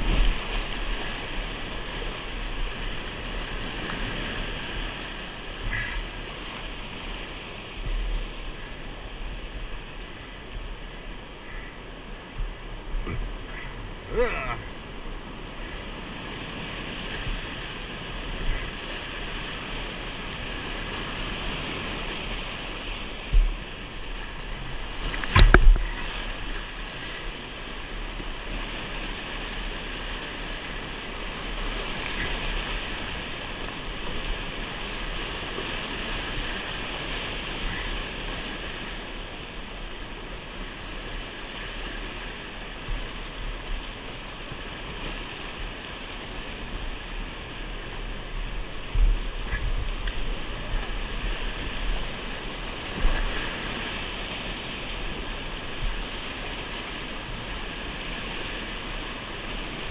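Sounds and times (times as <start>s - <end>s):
whitewater rushing: 0.0s - 59.9s.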